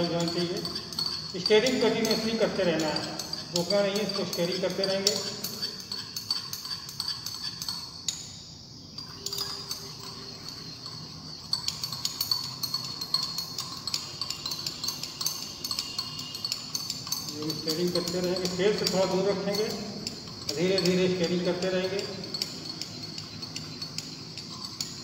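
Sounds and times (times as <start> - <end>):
glass rod clinking in beaker: 0.0 - 25.0.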